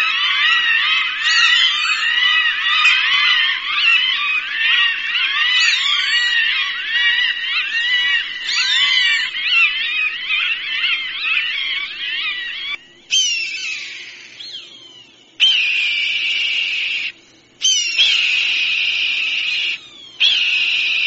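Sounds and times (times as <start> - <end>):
hawk screams: 0.0 - 21.0.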